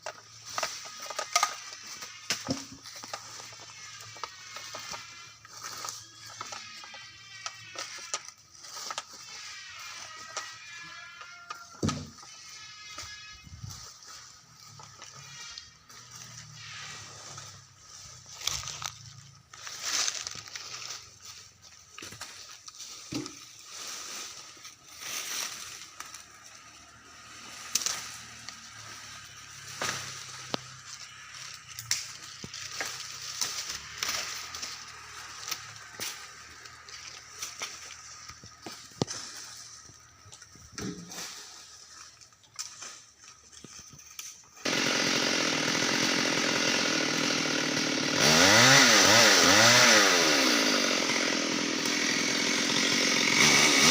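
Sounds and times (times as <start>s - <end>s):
chainsaw running and revving: 0.1s - 22.2s, 25.4s - 40.6s, 44.6s - 53.9s.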